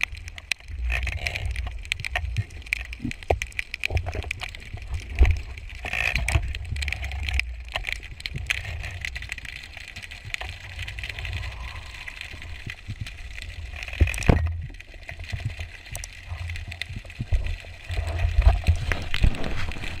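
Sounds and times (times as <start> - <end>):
underwater rumble of moving water: 0.0 - 20.0.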